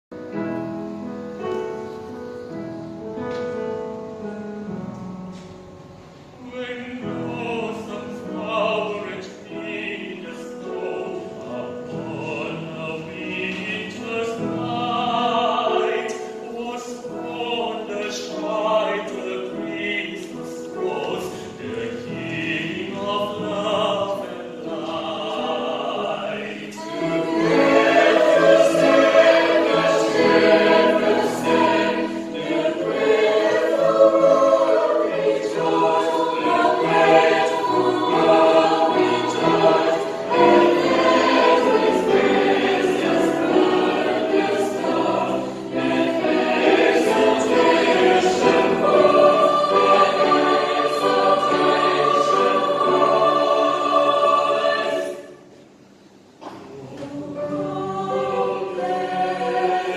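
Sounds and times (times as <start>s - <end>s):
baritone singing with vibrato: 6.4s - 55.2s.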